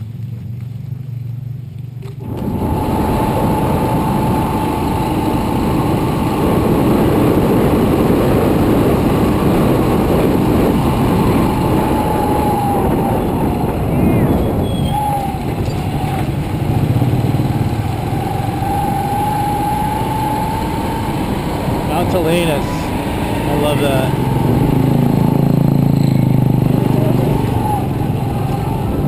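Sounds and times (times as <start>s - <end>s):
motorcycle engine running: 0.0s - 29.0s
steady whine: 2.2s - 29.0s
wind rush: 2.2s - 29.0s.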